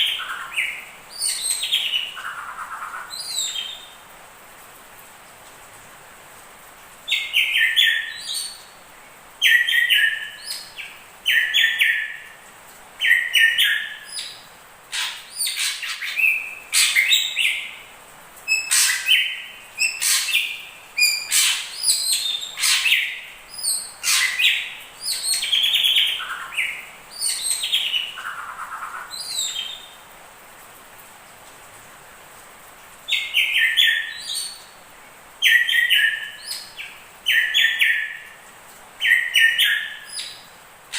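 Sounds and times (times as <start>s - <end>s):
faint hiss: 0.0s - 40.9s.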